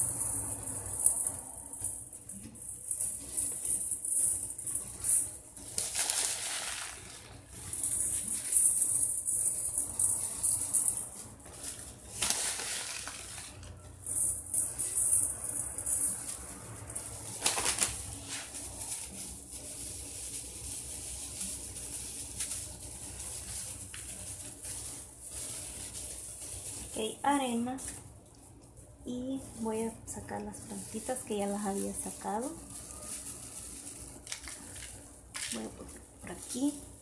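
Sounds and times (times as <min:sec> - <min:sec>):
pebbles rattling in glass bowl: 0:00.0 - 0:28.0, 0:29.0 - 0:37.0
plastic crinkling: 0:00.2 - 0:37.0.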